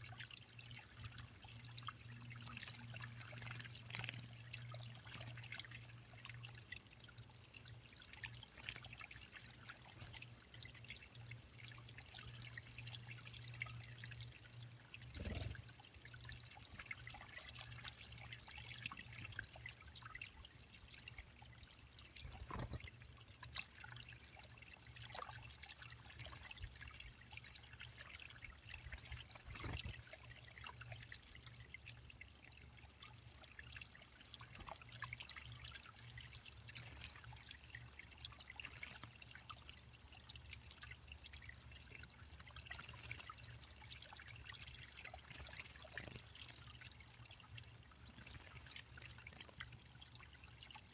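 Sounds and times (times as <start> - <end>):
water trickling into a pond: 0.0 - 50.9.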